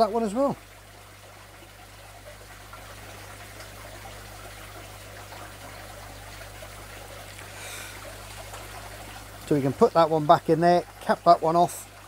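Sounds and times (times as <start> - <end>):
low electrical hum: 0.0 - 12.0
water trickling: 0.0 - 12.0.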